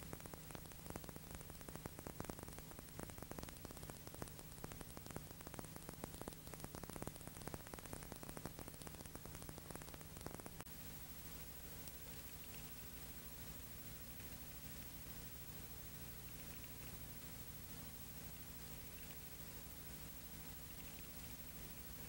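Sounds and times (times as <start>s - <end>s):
faint crackling static: 0.0s - 22.0s
steady hiss: 0.0s - 22.0s
steady low hum: 0.0s - 22.0s.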